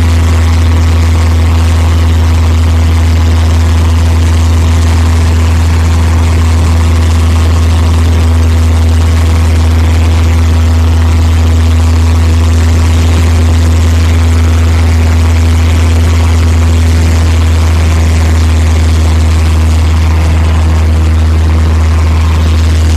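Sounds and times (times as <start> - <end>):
propeller plane engine drone: 0.0 - 22.9.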